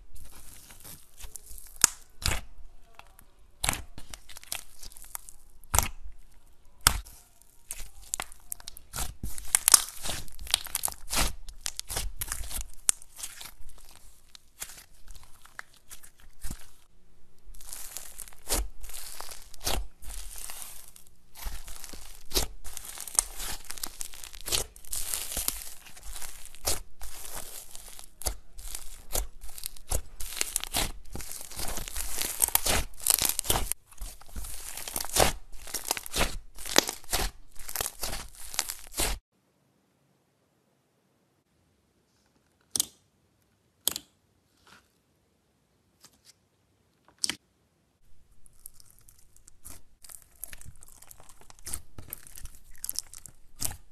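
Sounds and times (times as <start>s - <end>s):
slime crackling and popping: 0.1s - 39.2s, 48.2s - 53.9s.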